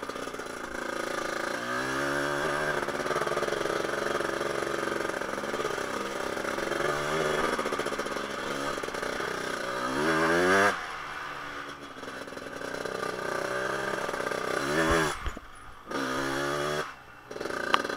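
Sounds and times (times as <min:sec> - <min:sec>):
two-stroke engine revving: 0:00.0 - 0:17.9.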